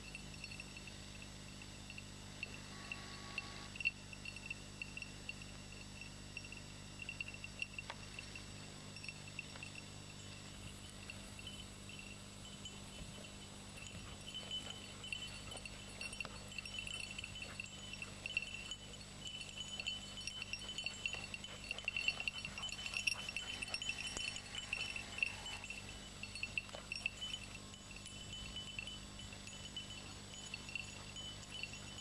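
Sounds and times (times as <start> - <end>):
small bell jingling: 0.0 - 32.0.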